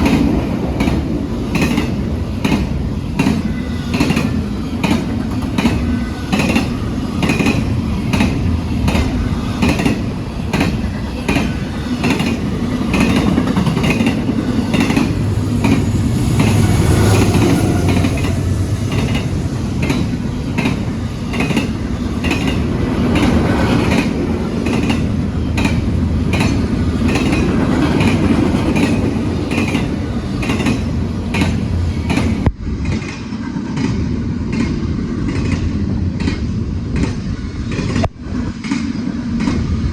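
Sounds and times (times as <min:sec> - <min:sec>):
train wheels clicking over rail joints: 0:00.0 - 0:39.8
heavy train rumble: 0:00.0 - 0:39.9.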